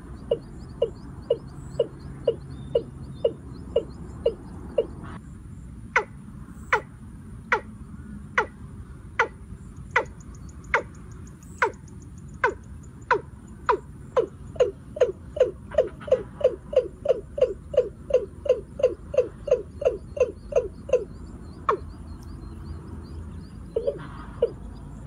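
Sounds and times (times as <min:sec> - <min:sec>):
watercock calling: 0:00.0 - 0:05.2, 0:06.0 - 0:06.9, 0:08.4 - 0:08.6, 0:09.2 - 0:22.4, 0:23.5 - 0:25.0.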